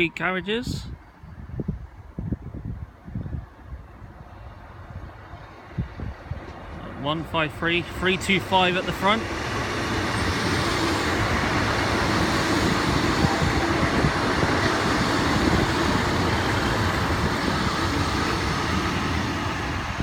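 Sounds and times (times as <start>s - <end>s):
diesel train rumbling past: 3.4s - 20.0s.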